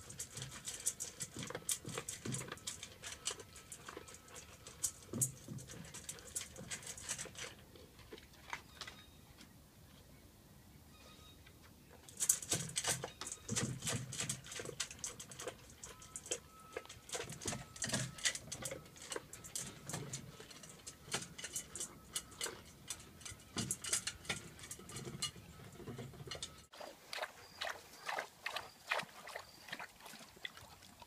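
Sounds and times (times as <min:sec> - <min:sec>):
dog crunching kibble in metal bowl: 0:00.0 - 0:09.0, 0:12.0 - 0:29.0.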